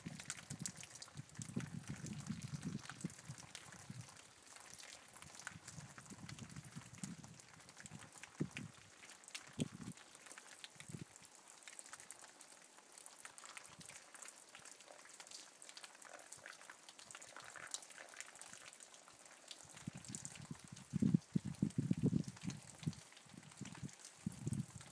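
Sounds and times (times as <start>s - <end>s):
light rain pattering and dripping: 0.0s - 24.9s.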